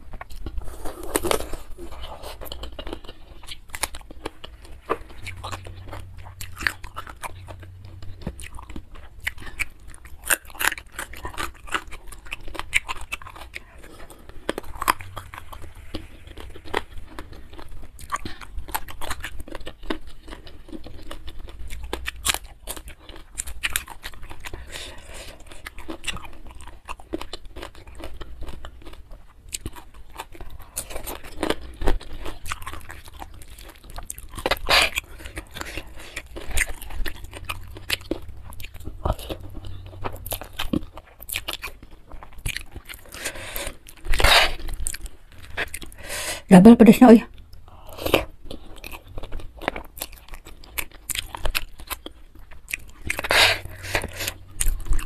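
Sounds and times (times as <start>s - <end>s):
crunchy chewing of vegetables: 0.0s - 46.5s, 47.3s - 55.0s.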